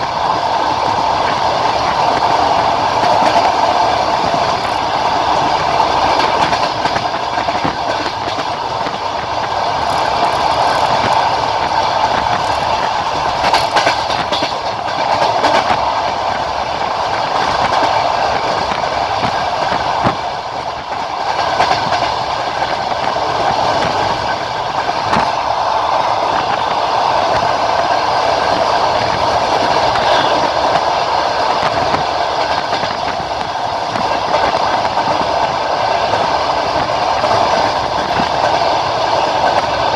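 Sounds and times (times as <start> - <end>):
train wheels clacking on track: 0.0 - 39.9.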